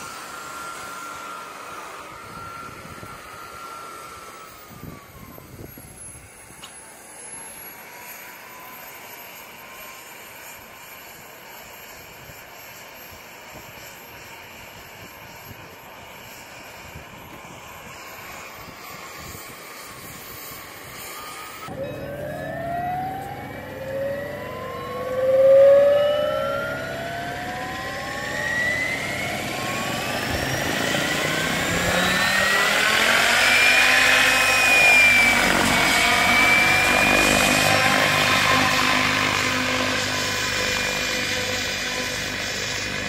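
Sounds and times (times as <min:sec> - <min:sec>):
rc helicopter motor whine: 0:00.0 - 0:43.0.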